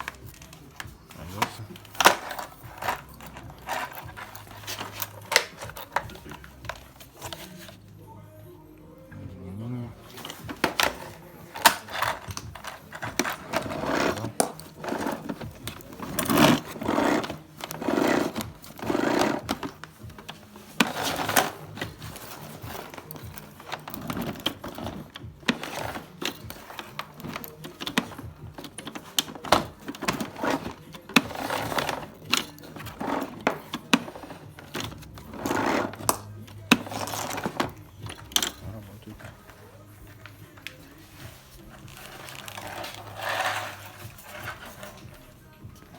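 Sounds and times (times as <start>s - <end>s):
plastic parts clicking and knocking: 0.0s - 7.8s, 10.1s - 39.4s.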